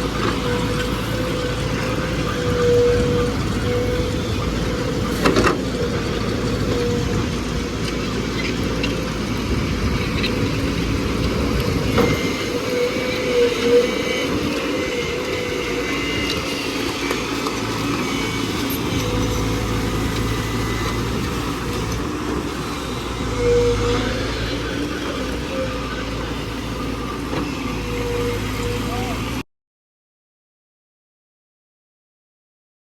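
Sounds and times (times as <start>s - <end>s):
excavator diesel engine running: 0.0s - 29.4s.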